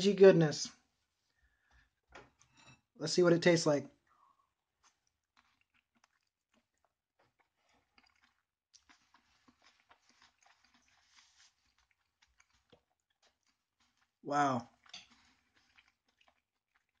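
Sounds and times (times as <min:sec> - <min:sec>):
person chewing tortilla: 0:01.0 - 0:03.0, 0:04.0 - 0:17.0.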